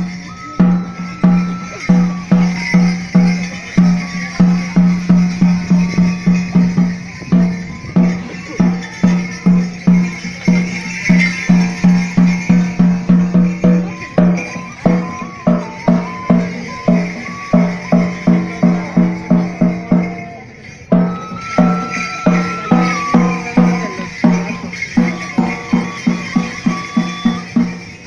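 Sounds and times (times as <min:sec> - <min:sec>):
fast drum beat: 0:00.0 - 0:28.0
thin high melody: 0:00.0 - 0:28.0.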